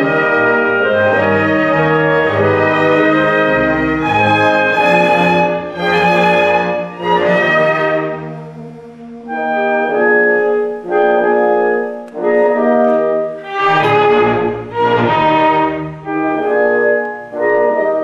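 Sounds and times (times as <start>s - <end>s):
orchestral background music: 0.0s - 18.0s.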